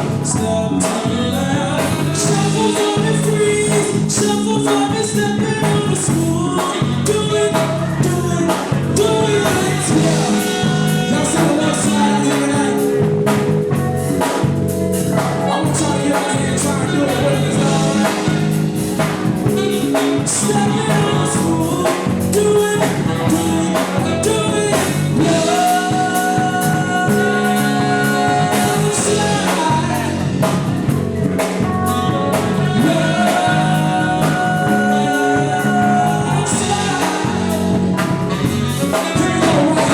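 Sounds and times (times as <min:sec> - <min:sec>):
lead singer singing: 0:00.0 - 0:39.9
live band playing soul song: 0:00.0 - 0:39.9.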